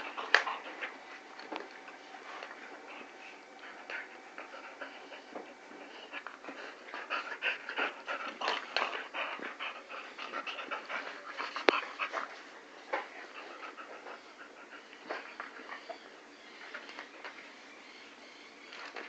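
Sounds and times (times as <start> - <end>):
puppies panting: 0.0 - 17.4
puppies snuffling and scuffling: 0.0 - 17.8.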